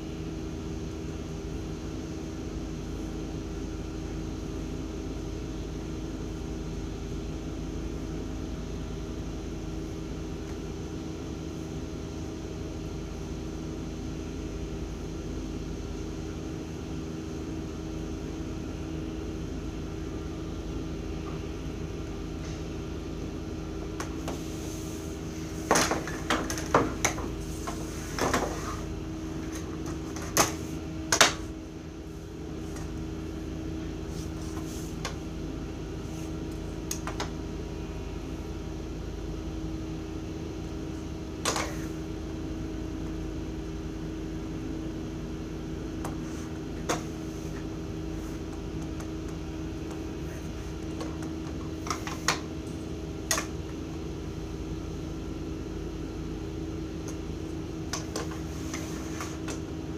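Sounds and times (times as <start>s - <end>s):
machine hum: 0.0s - 59.9s.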